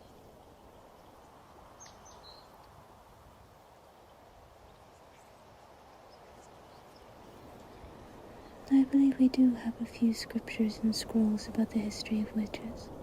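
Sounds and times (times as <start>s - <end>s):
soft background hiss: 0.0s - 13.0s.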